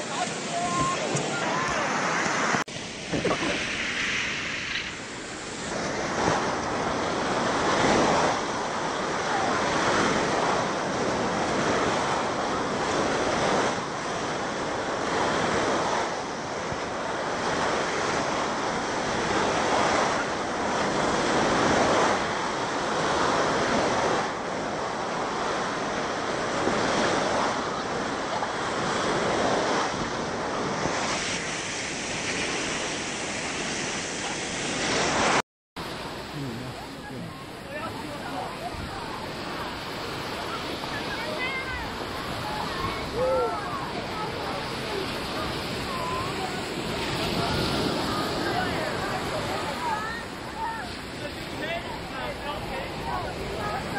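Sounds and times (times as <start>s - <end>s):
wind buffeting microphone: 0.0s - 31.4s, 36.0s - 53.9s
waves breaking on beach: 0.0s - 53.9s.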